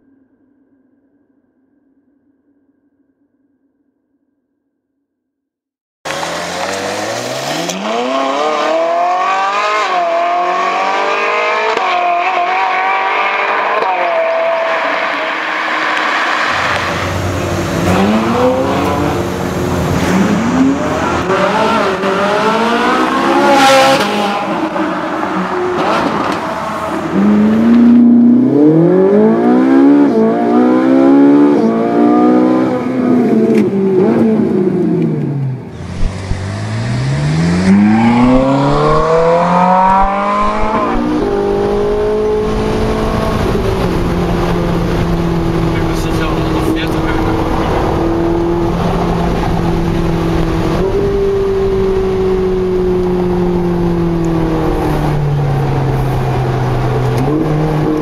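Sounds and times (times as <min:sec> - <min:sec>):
sports car engine accelerating hard: 0:06.1 - 0:58.0.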